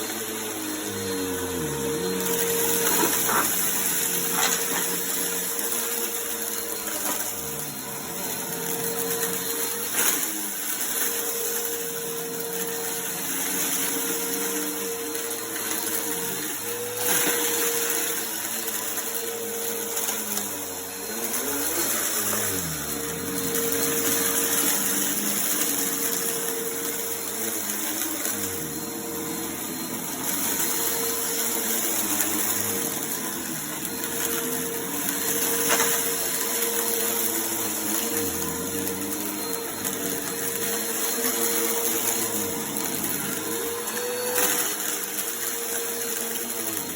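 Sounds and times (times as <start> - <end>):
vacuum cleaner running on a rug: 0.0 - 46.9.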